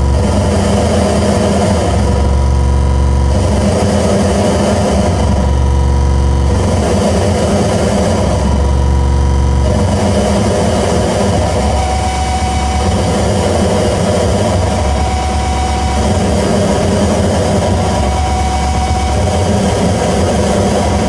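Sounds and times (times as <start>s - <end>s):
electronic noise drone: 0.0s - 21.0s.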